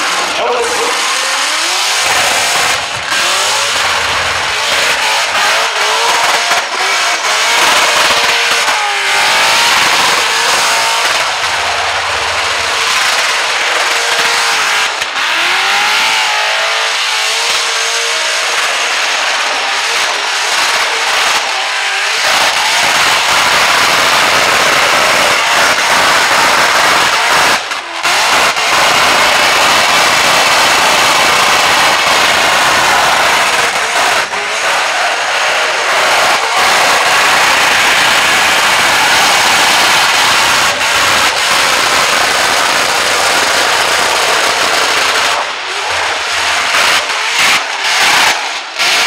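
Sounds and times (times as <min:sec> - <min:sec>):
car engine revving hard: 0:00.0 - 0:49.0
spinning tyres: 0:00.0 - 0:49.0.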